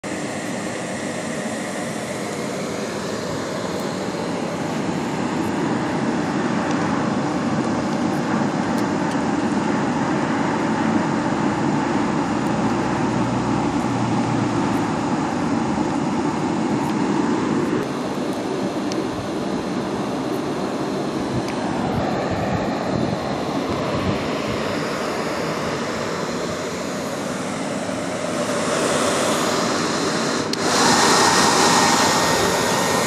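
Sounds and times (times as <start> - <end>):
hair dryer blowing air: 0.0 - 33.0
fanned fire: 0.1 - 33.0.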